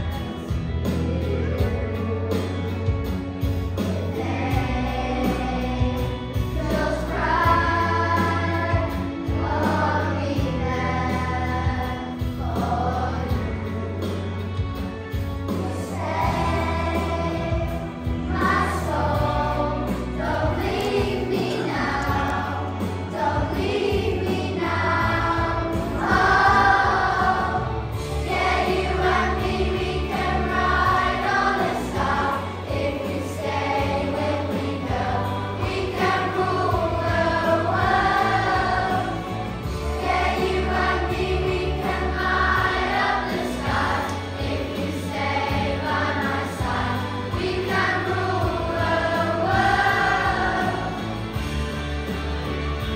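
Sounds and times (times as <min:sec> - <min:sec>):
children singing together: 0:00.0 - 0:03.1, 0:03.8 - 0:14.4, 0:15.6 - 0:51.6
backing music with bass line: 0:00.0 - 0:52.9.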